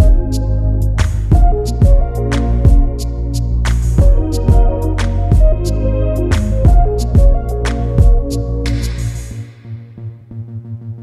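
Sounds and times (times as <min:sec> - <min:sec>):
steady drum beat: 0:00.0 - 0:09.4
sustained melodic notes: 0:00.0 - 0:09.4.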